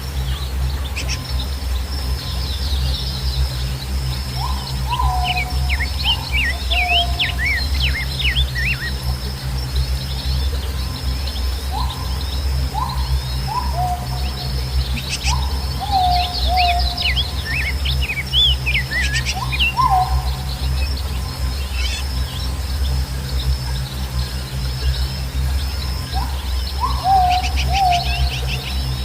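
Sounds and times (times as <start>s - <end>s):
falling bird calls: 0.0s - 29.0s
songbirds chirping: 0.0s - 29.0s
steady high buzz: 0.0s - 29.0s
steady low rumble: 0.0s - 29.0s.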